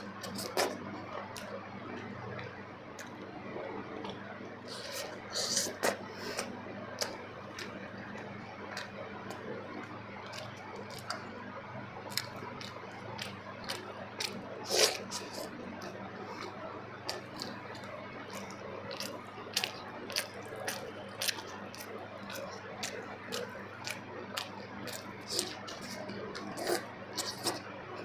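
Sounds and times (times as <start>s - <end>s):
wet chewing: 4.0s - 11.3s, 12.1s - 28.0s.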